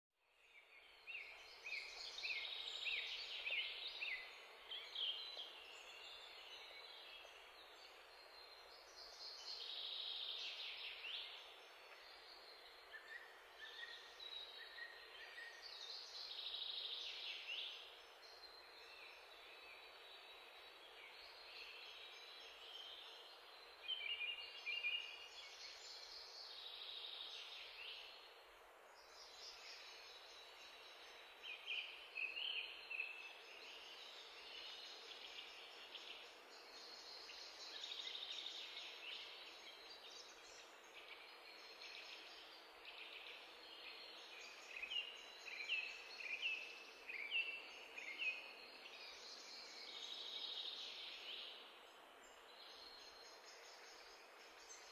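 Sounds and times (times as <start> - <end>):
small birds chirping: 0.3 - 54.9
faint hiss: 0.4 - 54.9.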